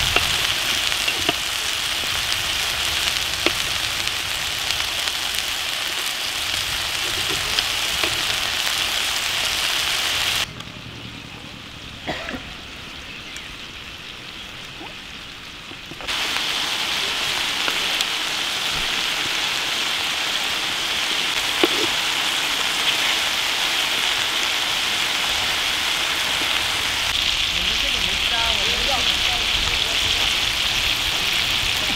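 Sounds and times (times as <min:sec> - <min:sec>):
food sizzling in oil: 0:00.0 - 0:10.5, 0:12.5 - 0:31.9.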